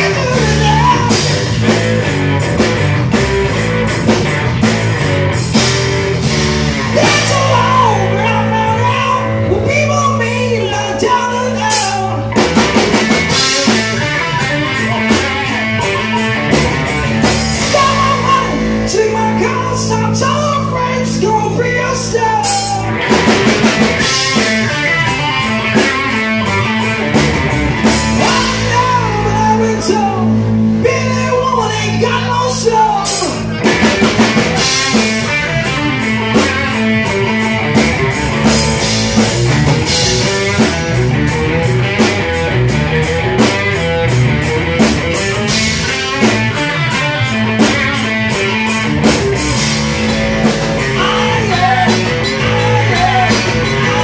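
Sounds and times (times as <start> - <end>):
bass guitar: 0.0 - 54.0
distorted electric guitar: 0.0 - 54.0
drum kit beat: 0.0 - 54.0.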